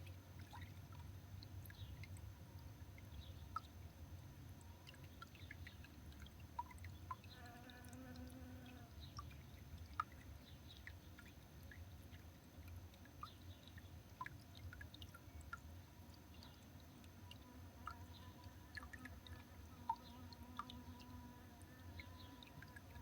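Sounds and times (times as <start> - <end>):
faint steady tone: 0.0 - 23.0.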